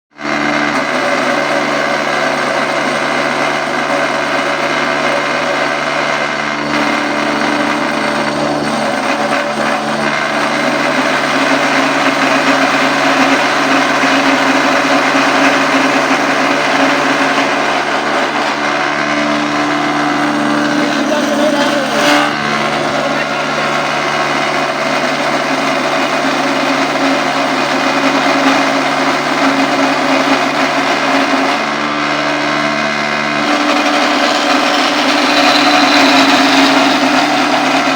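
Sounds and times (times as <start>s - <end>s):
woodworking machine whirring: 0.1s - 37.9s.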